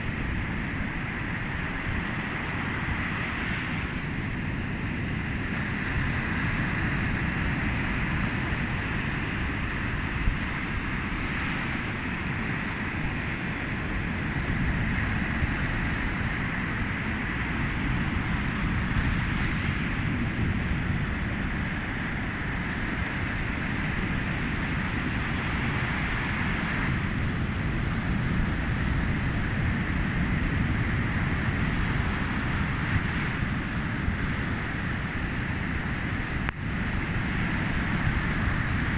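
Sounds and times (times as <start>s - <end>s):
sea waves washing ashore: 0.0s - 38.9s
wind buffeting microphone: 0.0s - 38.9s.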